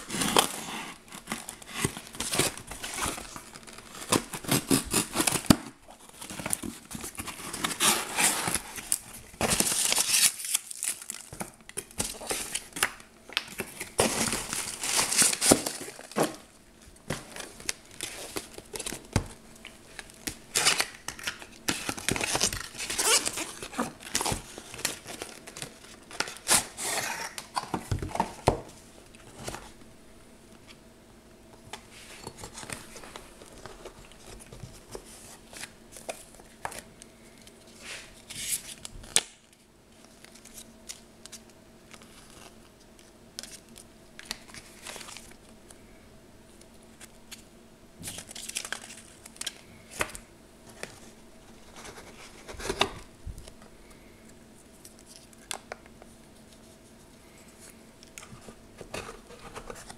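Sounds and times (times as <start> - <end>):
cardboard and packing rustling: 0.0 - 29.9, 31.6 - 41.0, 48.0 - 53.7, 54.6 - 59.9.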